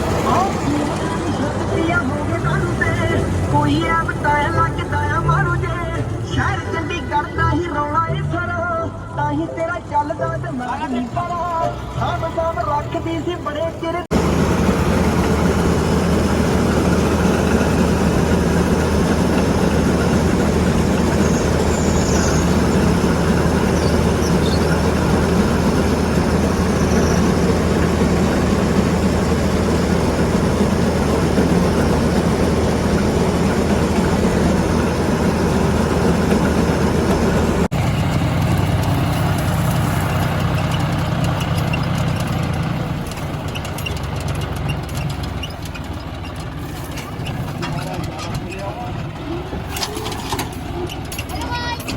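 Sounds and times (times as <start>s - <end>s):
diesel machinery running: 0.0s - 51.9s.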